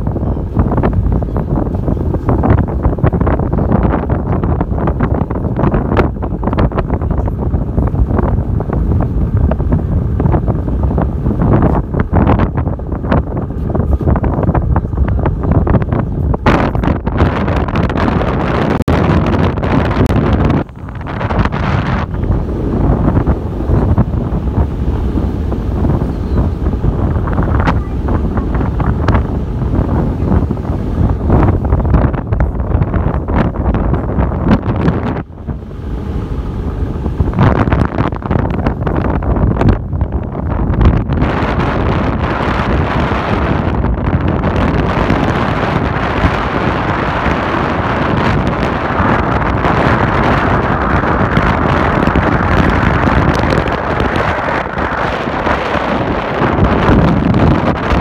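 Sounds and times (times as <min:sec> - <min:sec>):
low rumble: 0:00.0 - 0:58.0
wind buffeting microphone: 0:00.0 - 0:58.0.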